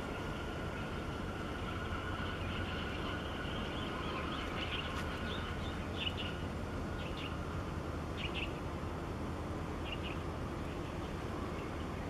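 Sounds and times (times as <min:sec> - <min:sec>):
small birds chirping: 0:00.0 - 0:08.8, 0:09.7 - 0:12.0
steady low rumble: 0:00.0 - 0:12.0.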